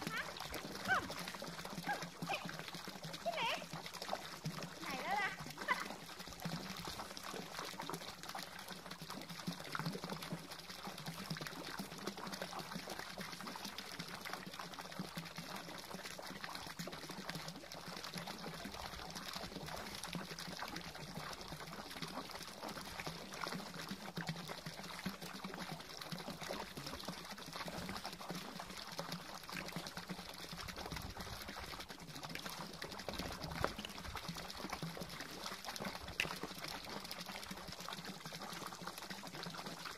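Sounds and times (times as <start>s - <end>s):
fountain water splashing into pond: 0.0s - 39.9s.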